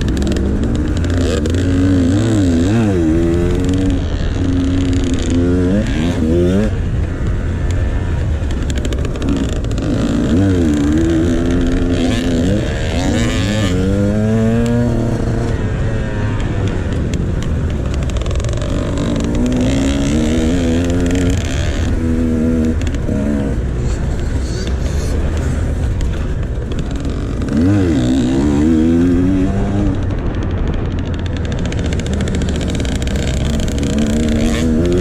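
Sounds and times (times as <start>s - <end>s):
dirt bike engine revving: 0.0s - 35.0s
steady low rumble: 0.0s - 35.0s.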